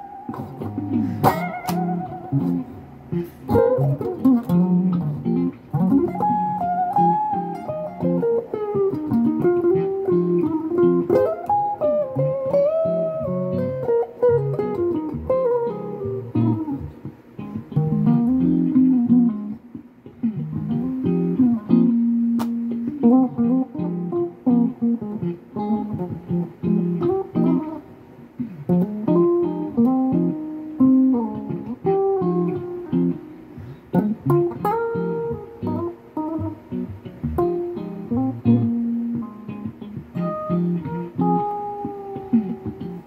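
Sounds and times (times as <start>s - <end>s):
electric guitar lead line: 0.0s - 43.0s
looped guitar backing: 0.0s - 43.0s.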